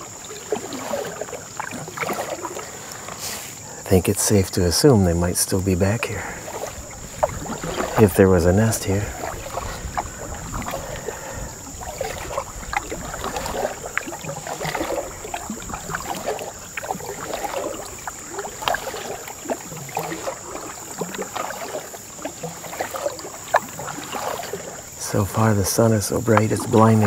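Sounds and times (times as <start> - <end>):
water dripping: 0.0 - 3.2, 4.8 - 27.0
canoe paddle splashing: 0.0 - 27.0.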